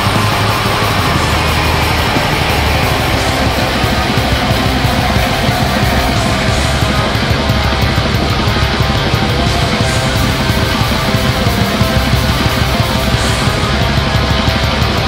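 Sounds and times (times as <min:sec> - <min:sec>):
distorted guitars: 0:00.0 - 0:15.0
drums: 0:00.0 - 0:15.0.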